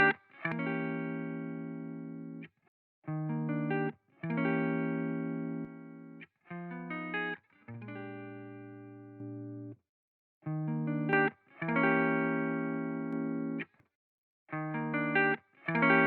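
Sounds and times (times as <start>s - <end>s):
electric guitar chords: 0.0s - 2.4s, 3.1s - 9.8s, 10.5s - 13.6s, 14.6s - 16.0s.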